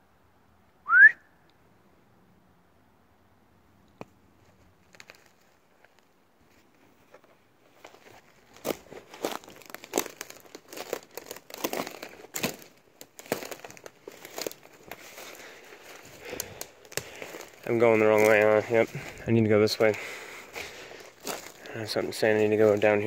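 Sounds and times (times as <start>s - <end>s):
footsteps crunching on dry twigs: 4.4s - 23.0s.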